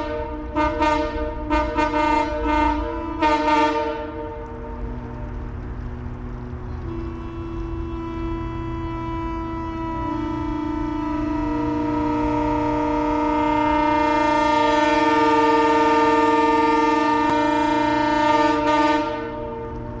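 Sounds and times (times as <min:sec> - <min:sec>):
locomotive air horn chord: 0:00.0 - 0:05.0, 0:06.7 - 0:20.0.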